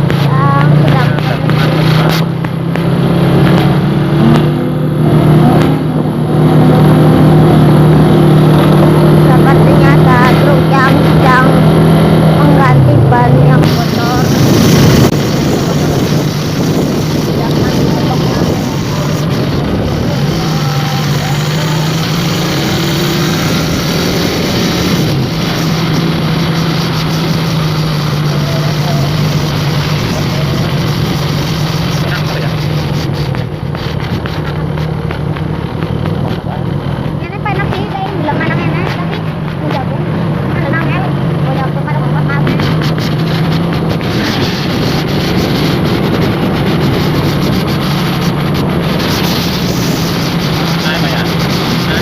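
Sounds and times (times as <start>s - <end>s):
road noise: 0.0s - 52.0s
steady rushing noise: 0.0s - 52.0s
vehicle engine running: 0.0s - 52.0s.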